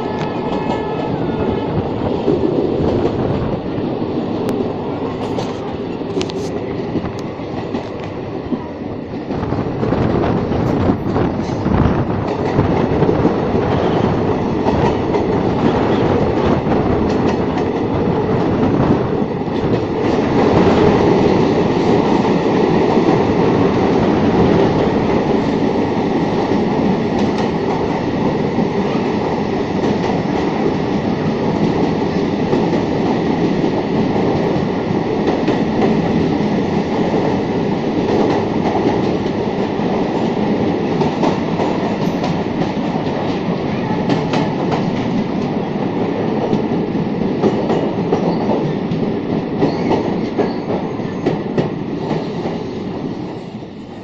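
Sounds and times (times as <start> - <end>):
train wheels clattering on rails: 4.4 - 53.9.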